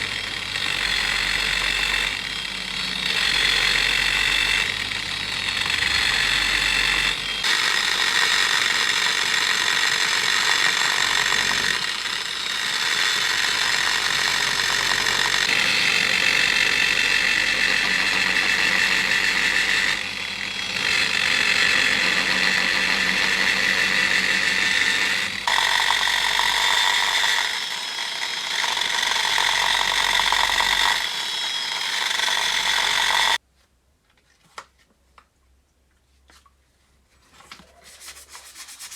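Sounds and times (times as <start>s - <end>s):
power tool whining on metal: 0.0s - 33.4s.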